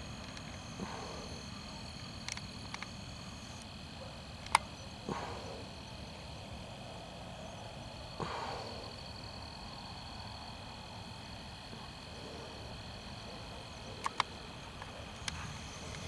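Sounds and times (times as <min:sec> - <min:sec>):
night insects chirping: 0:00.0 - 0:16.0.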